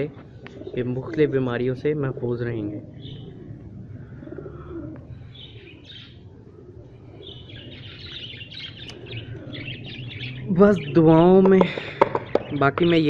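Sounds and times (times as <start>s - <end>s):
pigeons cooing: 0.0s - 13.0s
small birds chirping: 0.0s - 13.0s.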